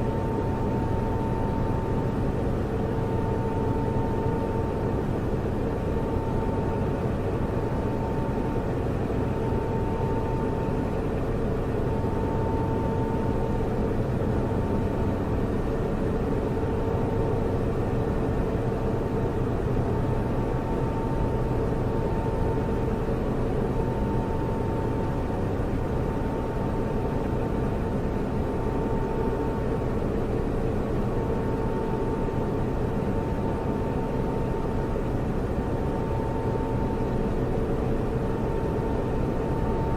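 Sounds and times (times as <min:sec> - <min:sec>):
server cooling fans whirring: 0:00.0 - 0:39.9.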